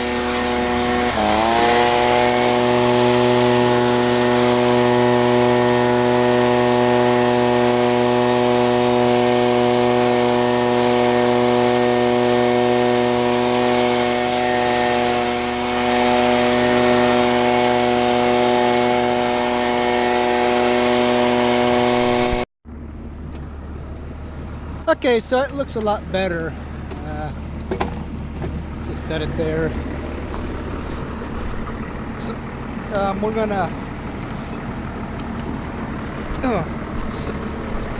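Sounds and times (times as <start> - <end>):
leaf blower running: 0.0 - 22.5, 26.6 - 37.9.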